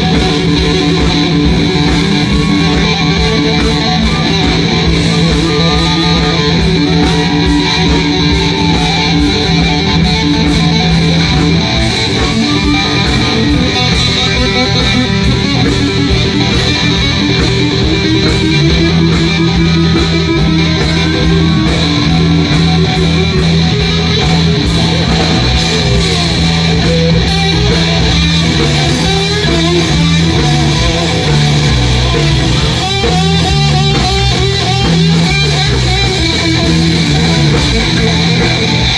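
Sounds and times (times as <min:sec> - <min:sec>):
blues band playing: 0:00.0 - 0:38.9
electric guitar: 0:00.0 - 0:38.9.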